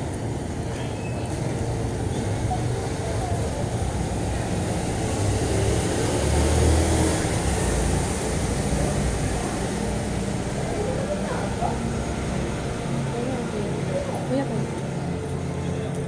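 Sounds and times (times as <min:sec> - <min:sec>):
traffic hum: 0:00.0 - 0:16.0
vehicle passing: 0:01.2 - 0:15.9.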